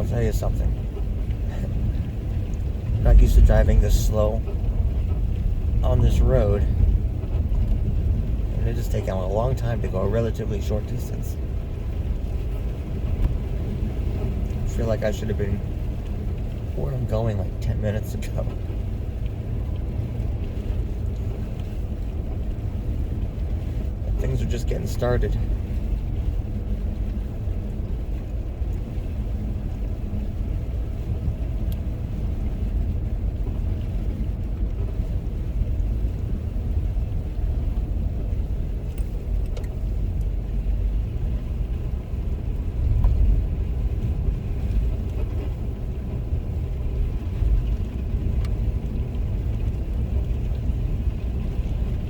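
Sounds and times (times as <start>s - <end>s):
car driving on snowy road: 0.0s - 52.0s.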